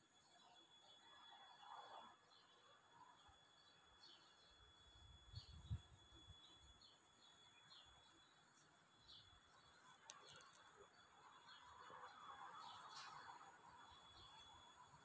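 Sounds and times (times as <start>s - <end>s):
small bird chirping: 2.3s - 14.9s.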